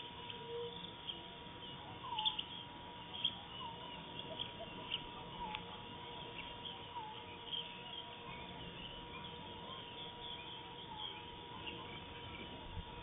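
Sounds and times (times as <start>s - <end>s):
thin steady tone: 0.0s - 13.0s
high bird chirps: 0.1s - 13.0s.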